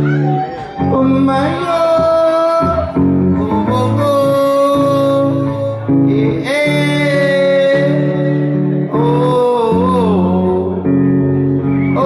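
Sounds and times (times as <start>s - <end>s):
picked electric guitar: 0.0s - 12.0s.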